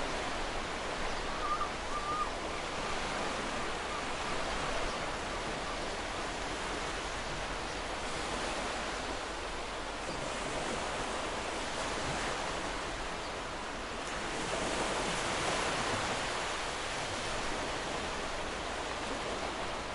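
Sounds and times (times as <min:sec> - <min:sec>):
ocean surf: 0:00.0 - 0:19.9.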